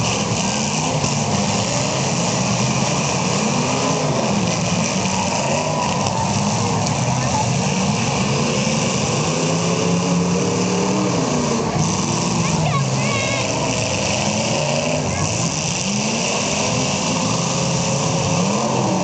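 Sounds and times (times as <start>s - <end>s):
car engines revving unevenly: 0.0s - 19.0s.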